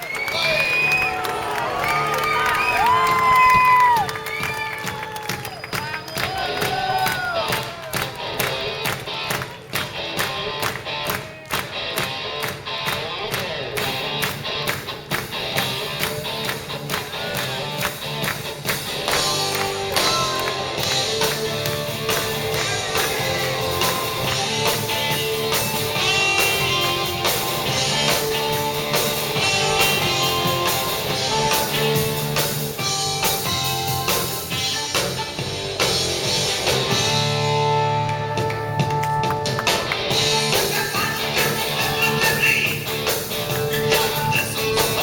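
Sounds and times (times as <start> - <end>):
rock band playing: 0.3 - 45.0.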